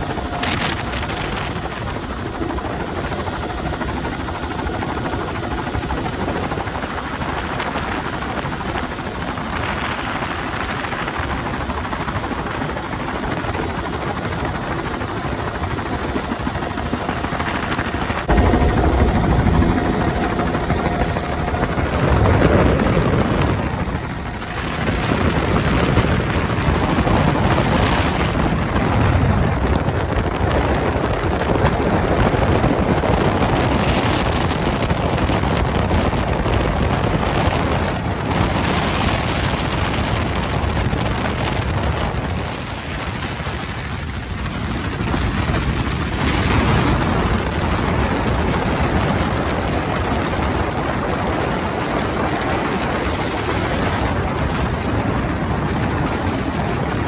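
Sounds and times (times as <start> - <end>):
helicopter rotor and engine: 0.0 - 57.0
wind buffeting microphone: 0.0 - 57.0.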